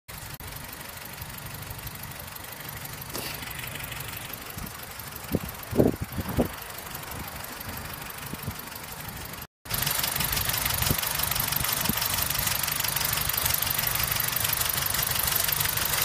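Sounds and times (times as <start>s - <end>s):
car engine idling: 0.1s - 16.0s.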